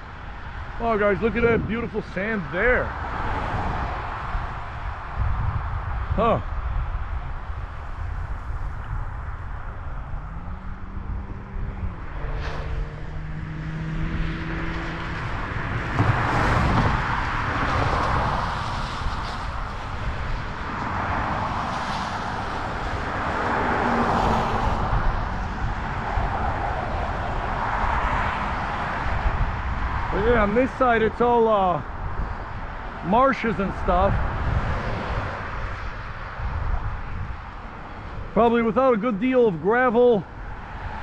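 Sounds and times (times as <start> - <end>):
cars passing: 0.0 - 41.0.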